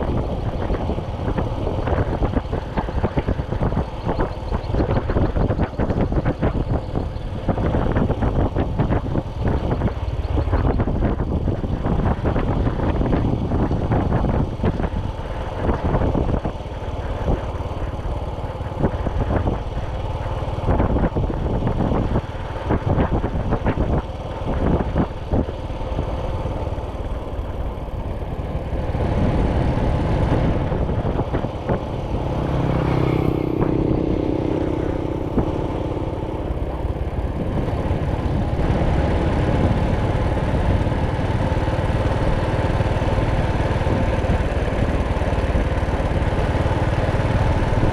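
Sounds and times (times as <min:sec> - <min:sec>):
low engine hum: 0:00.0 - 0:47.9
motorcycle engine running: 0:00.0 - 0:47.9
wind and road noise: 0:00.0 - 0:47.9.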